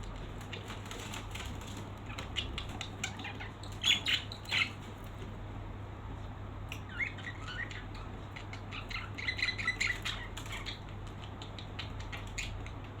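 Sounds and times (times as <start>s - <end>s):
birds chirping: 0.1s - 5.2s, 6.7s - 13.0s.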